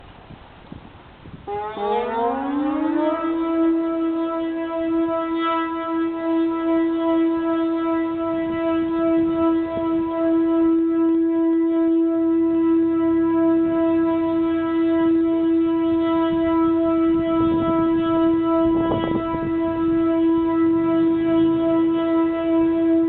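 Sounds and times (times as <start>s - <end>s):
electronic siren steady tone: 1.4s - 23.0s.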